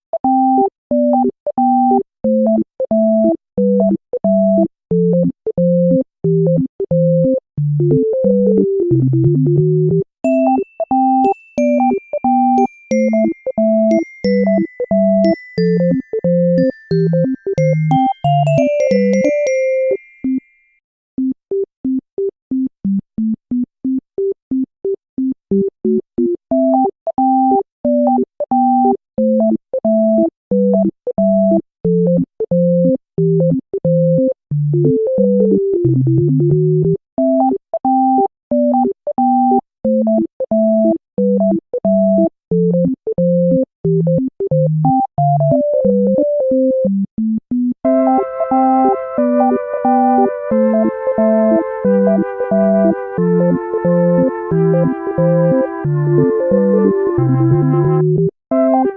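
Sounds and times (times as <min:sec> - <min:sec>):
bouncy synthesizer keyboard melody: 0:00.2 - 0:20.5, 0:21.2 - 0:58.9.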